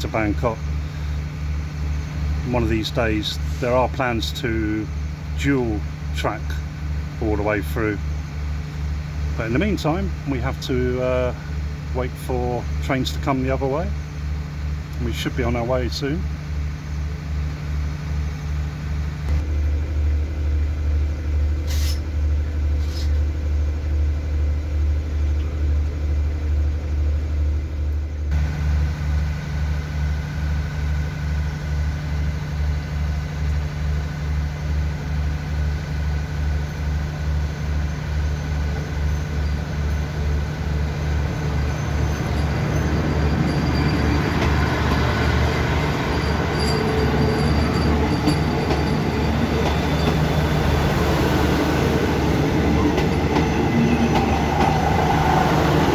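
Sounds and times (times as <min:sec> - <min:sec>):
train moving on rails: 0:00.0 - 0:25.2, 0:26.2 - 0:55.9
diesel engine throbbing: 0:00.0 - 0:55.9.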